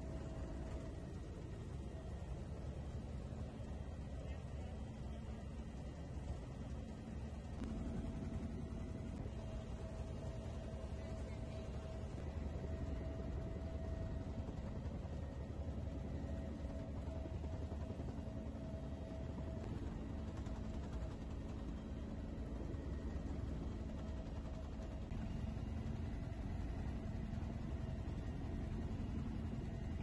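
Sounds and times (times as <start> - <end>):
helicopter turbine and rotor: 0.0 - 30.0.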